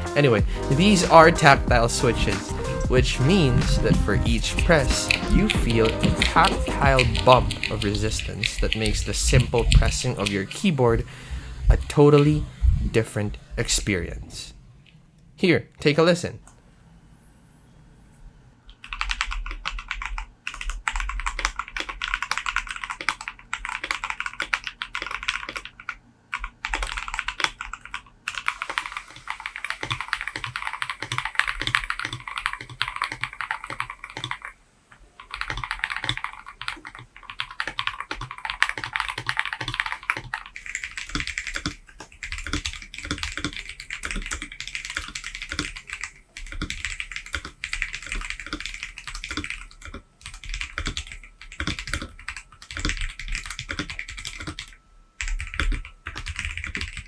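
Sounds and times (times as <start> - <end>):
mechanical keyboard typing: 0.0 - 10.5, 18.7 - 34.5, 35.2 - 57.0.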